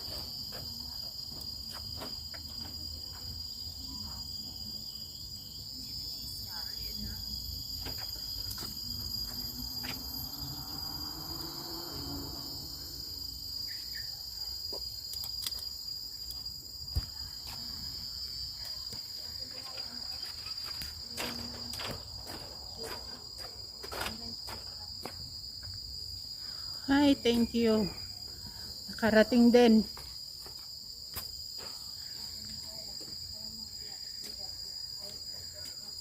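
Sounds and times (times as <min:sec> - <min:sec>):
insects droning high: 0:00.0 - 0:36.0.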